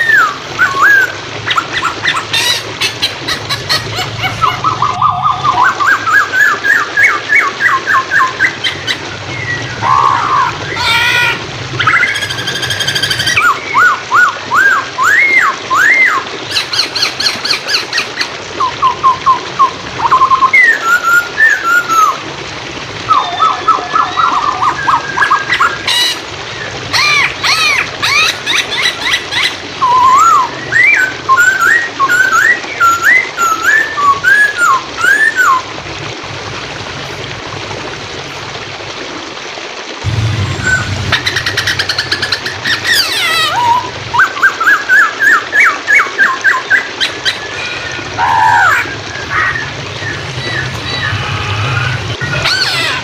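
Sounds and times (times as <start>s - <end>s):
flowing water rushing: 0.0s - 53.0s.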